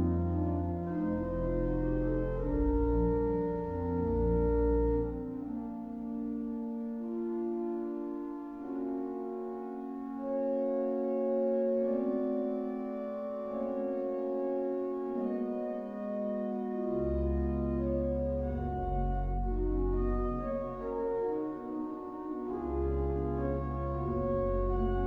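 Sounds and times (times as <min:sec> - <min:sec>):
deep organ pedal bass: 0:00.0 - 0:09.0, 0:09.7 - 0:25.0
pipe organ held notes: 0:00.0 - 0:25.0.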